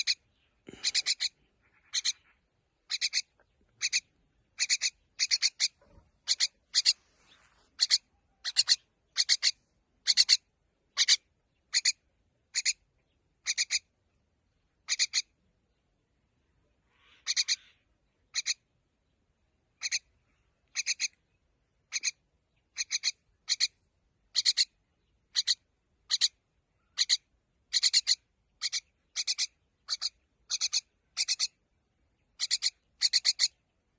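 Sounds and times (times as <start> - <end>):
bird harsh chirping calls: 0.0 - 12.8, 13.4 - 13.9, 14.8 - 15.3, 16.9 - 18.7, 19.8 - 21.2, 21.9 - 31.6, 32.2 - 33.7.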